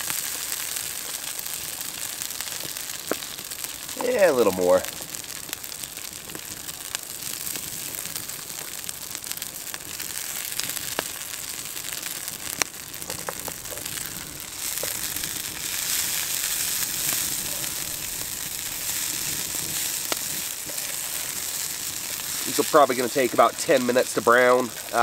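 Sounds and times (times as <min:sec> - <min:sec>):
hash browns sizzling: 0:00.0 - 0:25.0.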